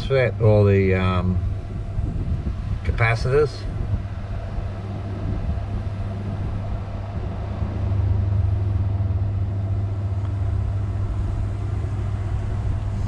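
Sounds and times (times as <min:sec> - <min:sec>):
inverter hum with cooling fans: 0:00.0 - 0:13.0
wind rumbling on microphone: 0:00.0 - 0:13.0.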